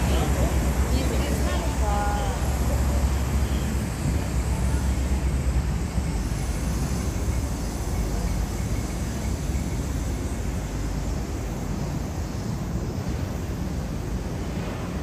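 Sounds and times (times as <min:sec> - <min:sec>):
busy city street rumble: 0:00.0 - 0:15.0.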